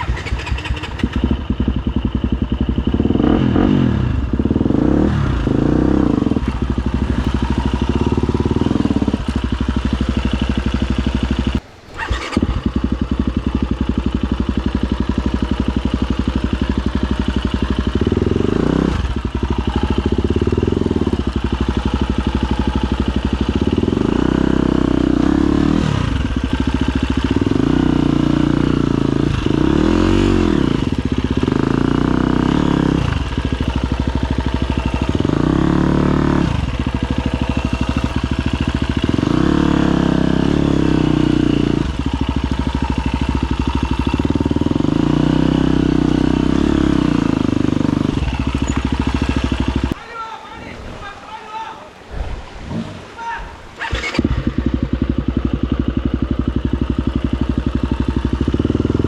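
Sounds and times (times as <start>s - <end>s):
dirt bike engine revving: 0.0s - 50.0s, 53.7s - 59.0s.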